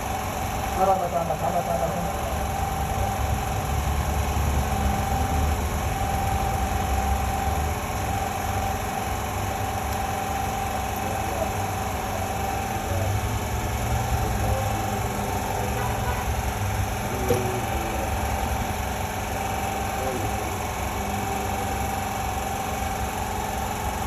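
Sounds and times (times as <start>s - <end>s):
machine hum with high tone: 0.0s - 24.0s.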